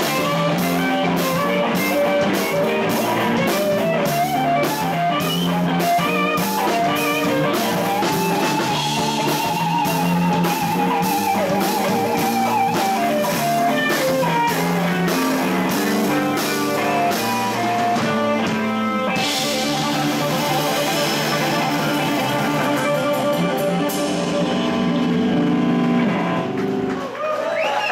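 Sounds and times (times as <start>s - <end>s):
bass guitar: 0.0s - 27.2s
drum kit: 0.0s - 27.2s
electric guitar: 0.0s - 27.2s.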